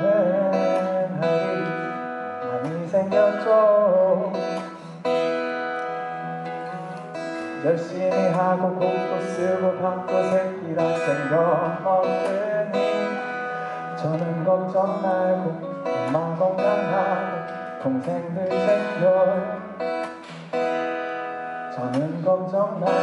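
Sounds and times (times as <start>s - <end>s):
man singing ballad: 0.0s - 5.1s, 7.4s - 20.3s, 21.6s - 23.0s
acoustic guitar: 0.0s - 23.0s.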